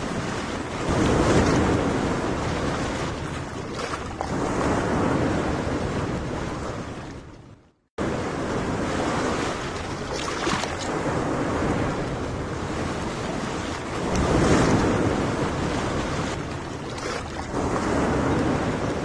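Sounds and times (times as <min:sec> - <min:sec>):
small waves washing on sand: 0:00.0 - 0:07.0, 0:08.0 - 0:19.0
wind buffeting microphone: 0:00.0 - 0:19.0.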